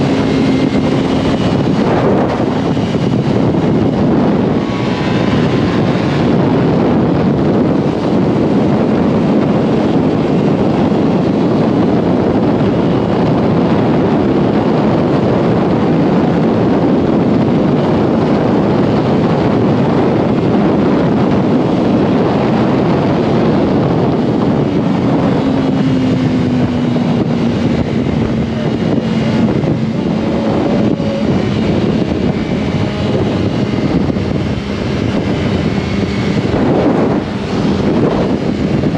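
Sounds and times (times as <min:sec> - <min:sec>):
motorcycle engine: 0:00.0 - 0:38.9
wind rush on microphone: 0:00.0 - 0:38.9.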